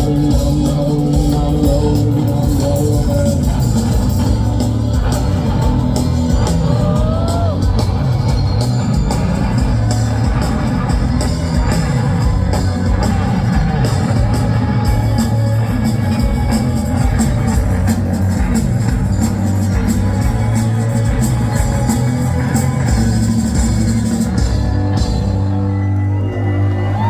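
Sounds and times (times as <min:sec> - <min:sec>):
steady drum beat: 0:00.0 - 0:25.6
heavy bass line: 0:00.0 - 0:27.0
rock band playing: 0:00.0 - 0:27.0.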